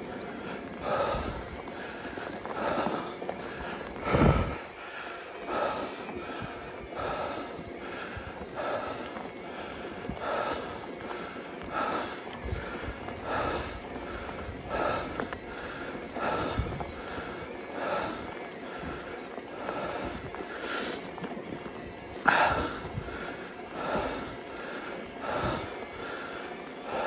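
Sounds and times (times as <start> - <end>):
cyclist breathing hard: 0.0 - 27.0.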